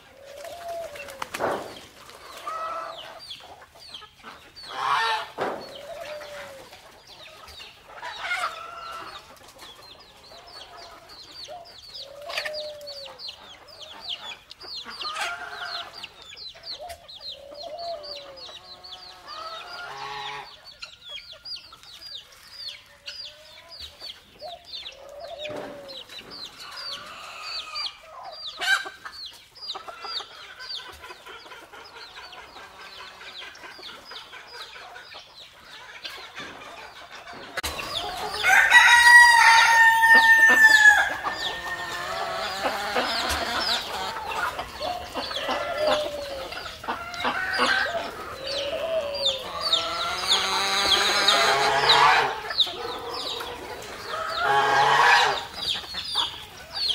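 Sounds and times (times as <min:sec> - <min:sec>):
hens clucking: 0:00.0 - 0:56.9.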